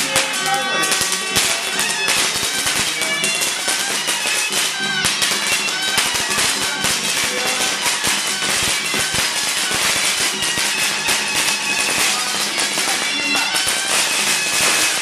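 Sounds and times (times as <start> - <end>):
high melody line: 0.0 - 15.0.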